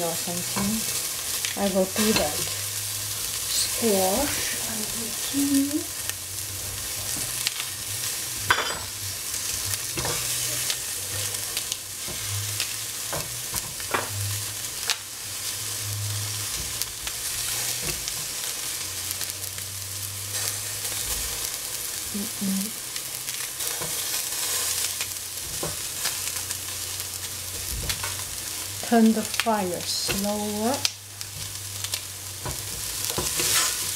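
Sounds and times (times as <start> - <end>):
vegetables sizzling in oil: 0.0 - 33.9.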